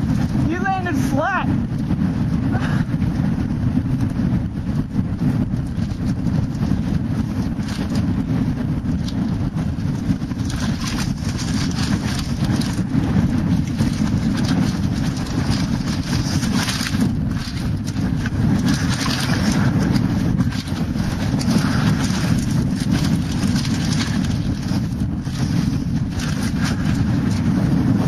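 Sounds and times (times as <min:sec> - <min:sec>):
wind buffeting microphone: 0:00.0 - 0:28.0
bike rattles and knocks: 0:01.7 - 0:28.0.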